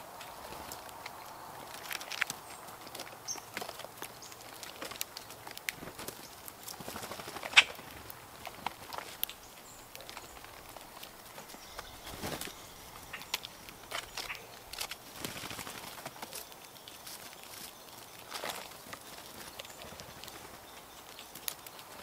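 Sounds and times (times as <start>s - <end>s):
rustles on dry forest litter: 0.0s - 22.0s
bird wings flapping: 0.2s - 22.0s.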